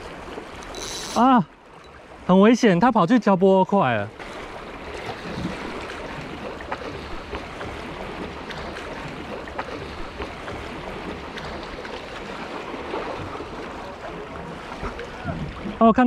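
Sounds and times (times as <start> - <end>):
sea water lapping against rocks: 0.0 - 16.0
small water splashes: 0.0 - 16.0.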